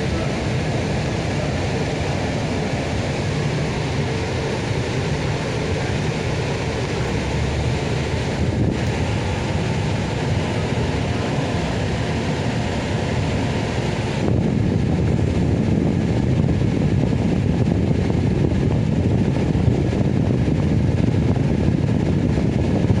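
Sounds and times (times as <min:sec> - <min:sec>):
bus running noise inside: 0:00.0 - 0:23.0.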